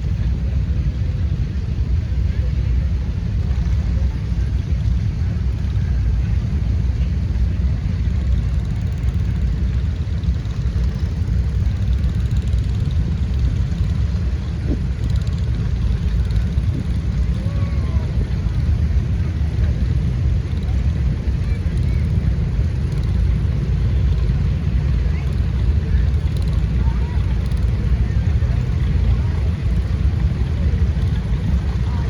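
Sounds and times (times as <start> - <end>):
engines rumbling: 0.0 - 32.0.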